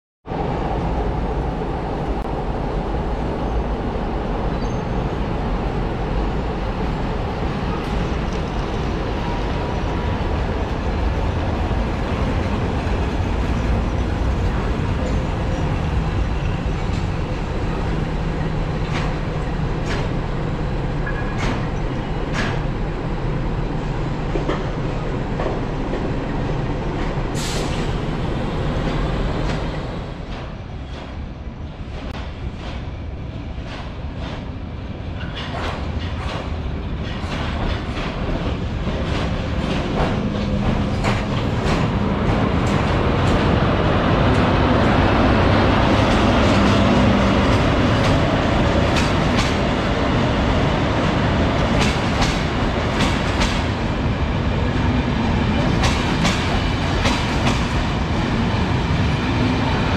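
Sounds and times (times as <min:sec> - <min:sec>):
train wheels rumbling on rails: 0:00.3 - 0:59.9.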